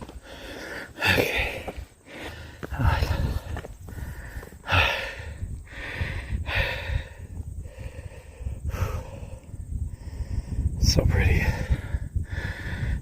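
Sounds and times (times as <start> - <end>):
man breathing heavily: 0.0 - 13.0.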